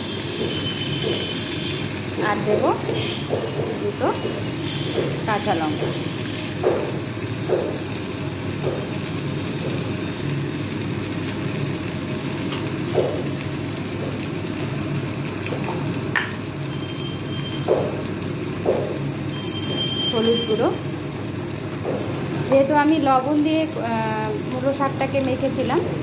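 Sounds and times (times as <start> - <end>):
greens sizzling in oil: 0.0 - 26.0.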